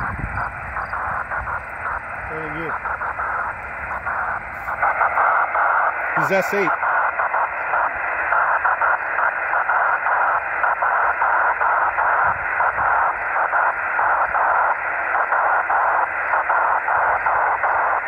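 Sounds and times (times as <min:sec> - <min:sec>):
rough radio hiss: 0:00.0 - 0:18.0.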